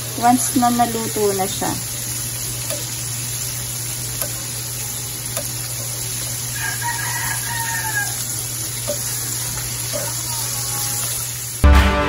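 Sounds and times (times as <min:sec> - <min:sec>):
fish sizzling in oil: 0:00.0 - 0:11.6.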